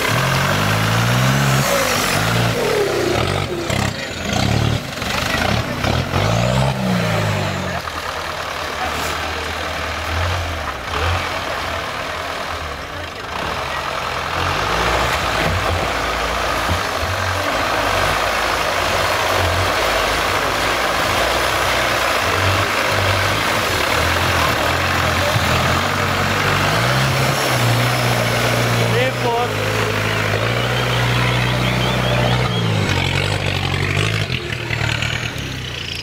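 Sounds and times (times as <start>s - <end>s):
off-road vehicle engine: 0.0s - 36.0s.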